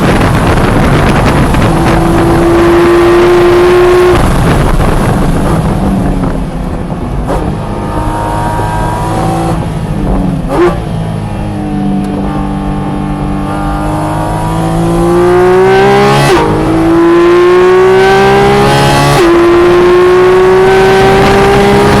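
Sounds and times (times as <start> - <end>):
sports car engine revving: 0.0 - 22.0.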